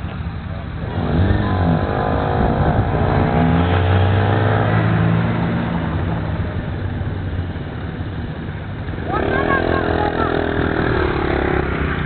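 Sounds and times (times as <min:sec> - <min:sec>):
motorcycle engine revving: 0:00.7 - 0:12.0.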